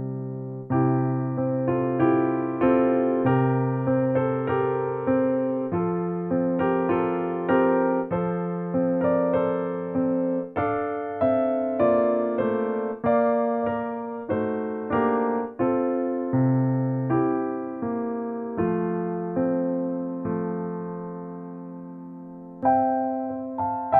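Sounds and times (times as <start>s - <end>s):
gentle piano melody: 0.0s - 23.9s.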